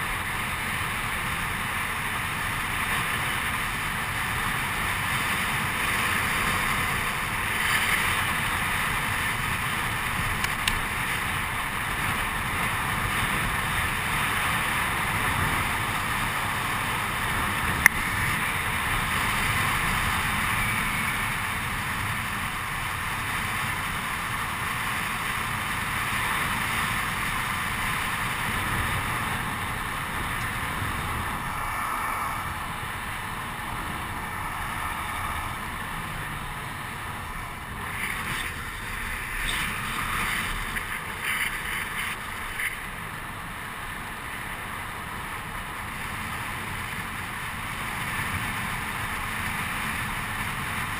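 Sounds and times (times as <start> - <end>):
wheels rolling on asphalt: 0.0 - 50.9
wind rushing over microphone: 0.0 - 50.9.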